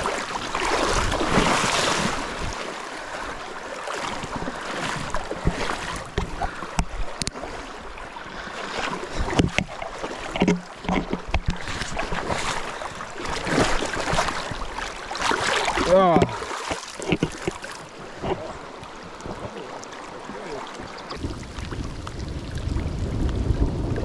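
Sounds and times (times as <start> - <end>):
river water rushing: 0.0 - 23.1.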